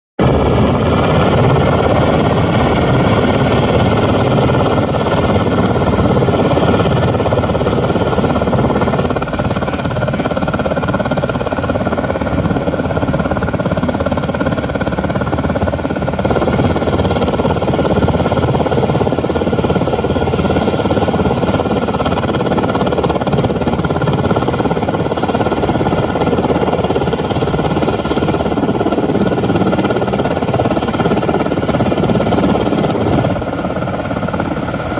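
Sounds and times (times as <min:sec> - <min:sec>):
helicopter hovering: 0:00.2 - 0:34.9
high-pitched turbine whine: 0:00.2 - 0:34.9.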